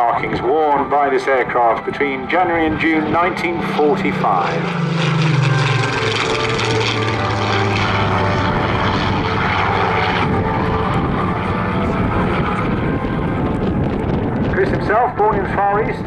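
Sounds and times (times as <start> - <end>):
propeller plane engine passing overhead: 0.0 - 16.0.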